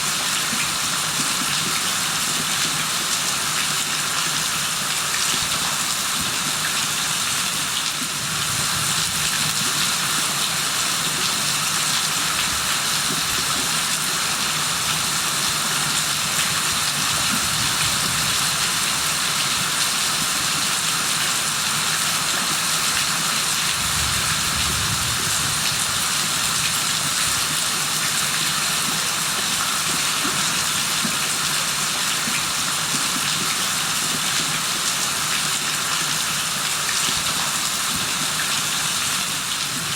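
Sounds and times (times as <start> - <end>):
rain falling: 0.4 - 39.9.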